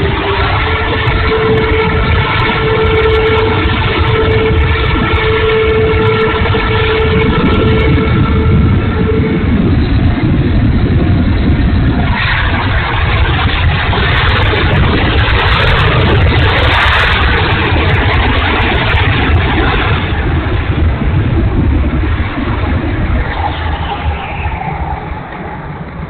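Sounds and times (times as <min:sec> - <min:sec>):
electric ducted fans rushing: 0:00.0 - 0:26.0.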